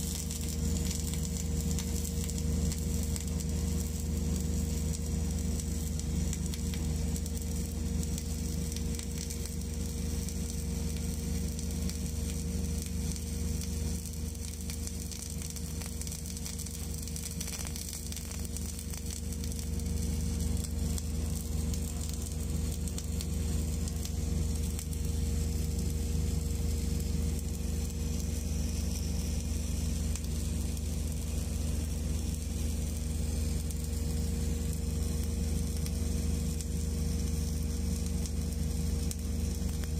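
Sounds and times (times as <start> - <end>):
low hum: 0.0 - 39.9
welding arc hissing: 0.0 - 39.9.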